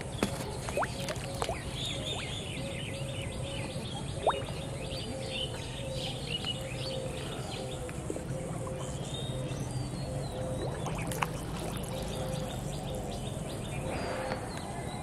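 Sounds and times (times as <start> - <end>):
birds chirping and twittering: 0.0 - 15.0
steady low hum: 0.0 - 15.0.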